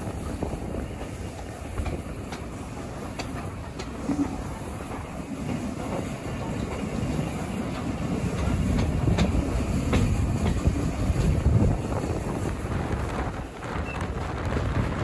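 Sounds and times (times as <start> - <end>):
rumble of train wheels and carriages: 0.0 - 15.0
wheels clicking over rail joints: 0.3 - 15.0.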